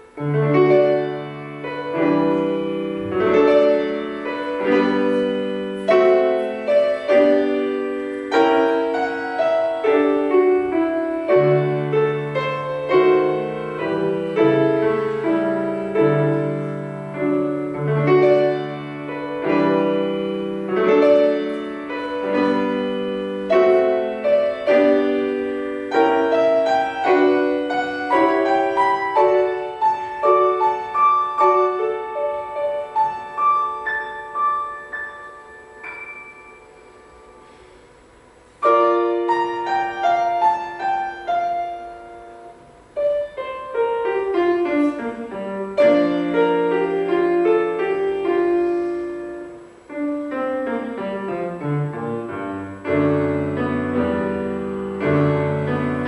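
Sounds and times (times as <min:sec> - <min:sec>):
solo piano playing classical piece: 0:00.0 - 0:56.0.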